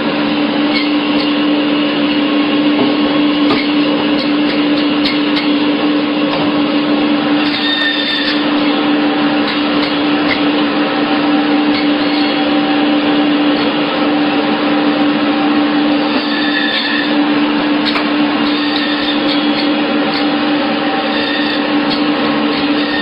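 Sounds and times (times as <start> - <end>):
machine running with low hum: 0.0 - 23.0.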